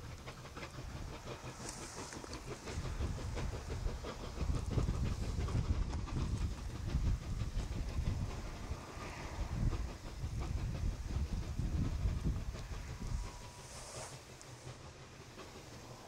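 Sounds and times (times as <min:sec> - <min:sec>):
steam locomotives chuffing: 0:00.0 - 0:16.0.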